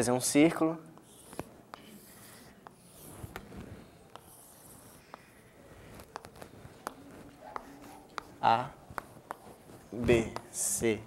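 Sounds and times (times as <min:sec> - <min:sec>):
chalk ticking on board: 0:00.9 - 0:11.0
chalk scraping on chalkboard: 0:01.0 - 0:11.0.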